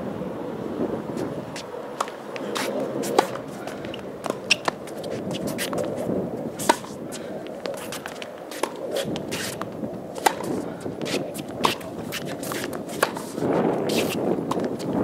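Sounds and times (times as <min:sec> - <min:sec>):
shoes scuffing on court: 0:01.2 - 0:15.0
tennis balls bouncing on hard court: 0:01.6 - 0:15.0
tennis balls struck by racquets: 0:01.6 - 0:15.0.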